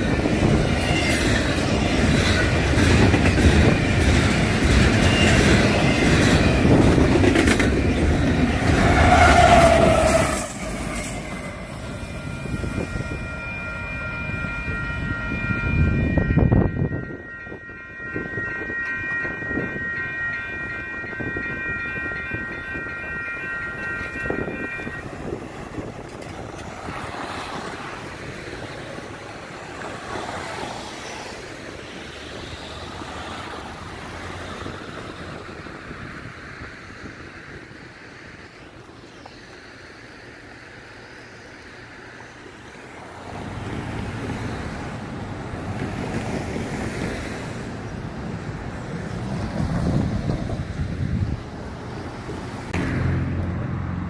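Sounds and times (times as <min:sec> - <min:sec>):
crossing warning bells ringing: 0:00.0 - 0:32.0, 0:40.0 - 0:52.8
freight train rumbling: 0:00.0 - 0:54.0
wind: 0:00.0 - 0:54.0.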